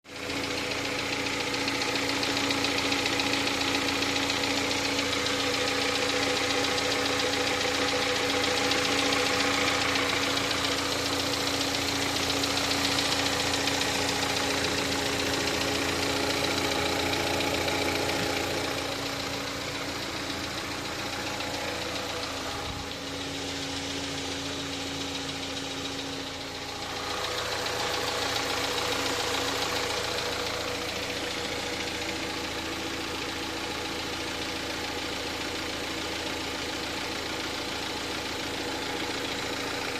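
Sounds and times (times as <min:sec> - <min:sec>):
car engine knocking: 0:00.1 - 0:39.9.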